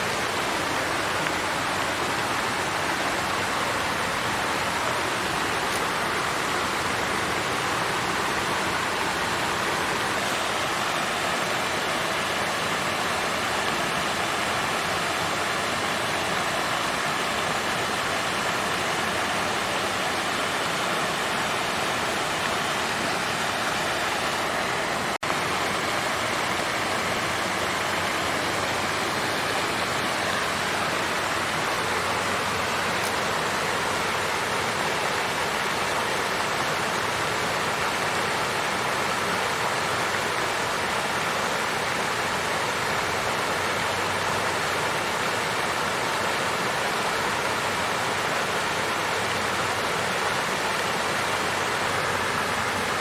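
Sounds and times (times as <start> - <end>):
water fountain flowing: 0.0 - 53.0.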